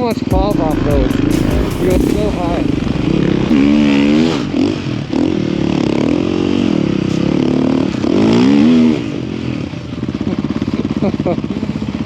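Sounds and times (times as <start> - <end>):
snow bike engine revving: 0.5 - 12.0.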